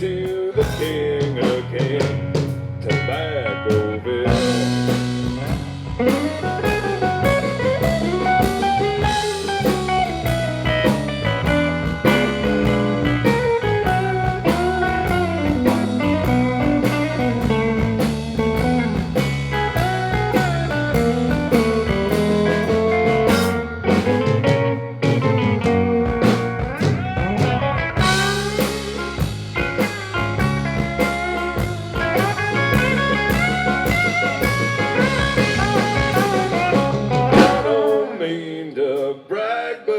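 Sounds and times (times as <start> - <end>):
drum kit: 0.0 - 38.2
bass: 0.0 - 39.1
lead guitar bending notes: 2.3 - 38.1.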